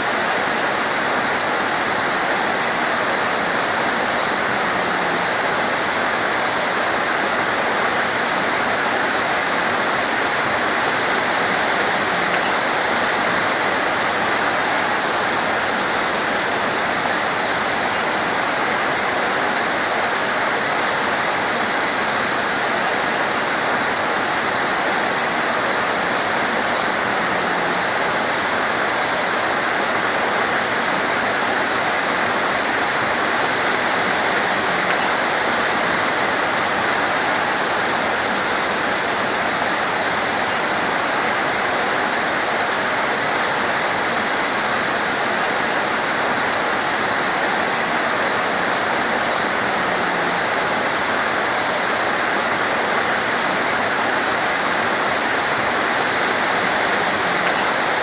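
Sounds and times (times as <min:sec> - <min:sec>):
torrential rain: 0:00.0 - 0:58.0.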